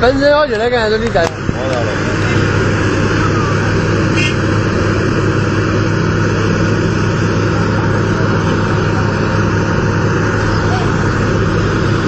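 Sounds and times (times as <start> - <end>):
diesel engine droning under load: 0.0 - 12.0.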